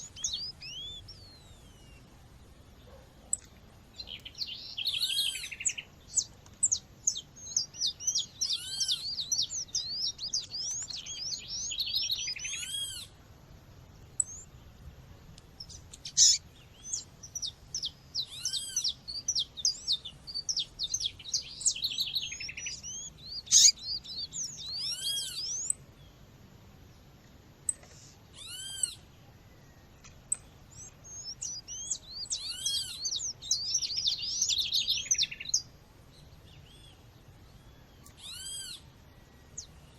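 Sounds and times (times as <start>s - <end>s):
birds twittering: 0.0s - 13.2s, 14.0s - 14.8s, 15.6s - 26.2s, 27.7s - 39.9s
bird chirping: 0.0s - 13.3s, 13.9s - 39.9s.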